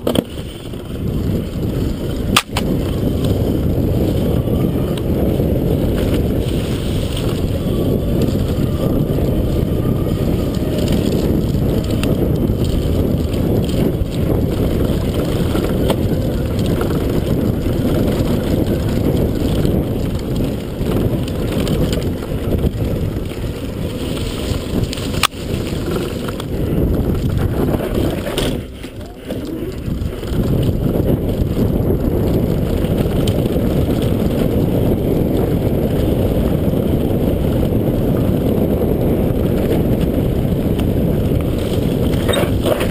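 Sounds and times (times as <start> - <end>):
bike rattling over rough trail: 0.0 - 42.9
wind buffeting microphone: 0.0 - 42.9.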